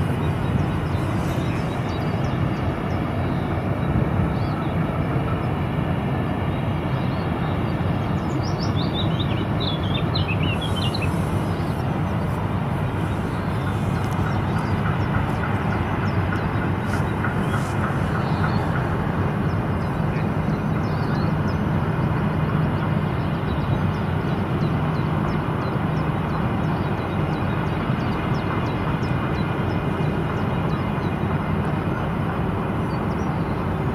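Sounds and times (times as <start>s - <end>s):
ship engine low drone: 0.0s - 33.9s.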